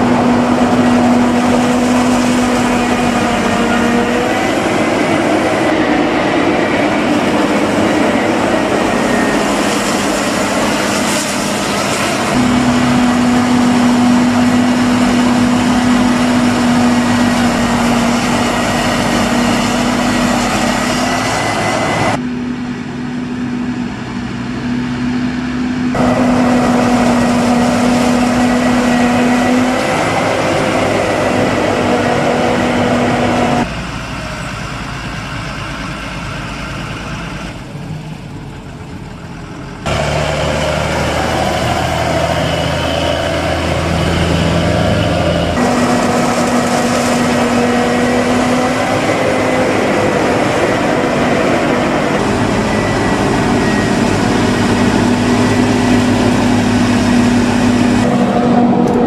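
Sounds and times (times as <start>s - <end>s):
deeper tractor engine: 0.0s - 59.0s
forage harvester droning: 0.0s - 59.0s
tractor engine running: 0.0s - 59.0s.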